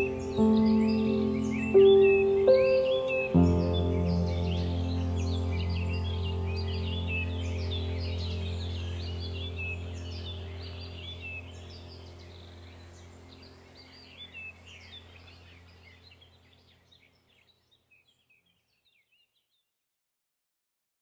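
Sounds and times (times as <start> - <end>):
low steady hum: 0.0 - 17.3
small birds chirping: 0.0 - 19.7.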